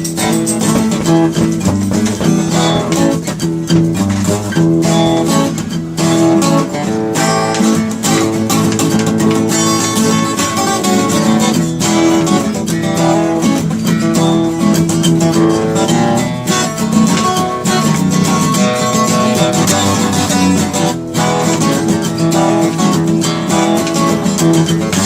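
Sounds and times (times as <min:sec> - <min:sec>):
live blues guitar music: 0:00.0 - 0:25.0.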